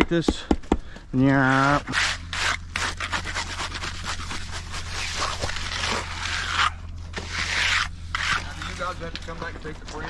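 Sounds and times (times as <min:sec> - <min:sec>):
steady low hum: 0:00.0 - 0:10.0
hand float scraping wet concrete: 0:01.3 - 0:10.0.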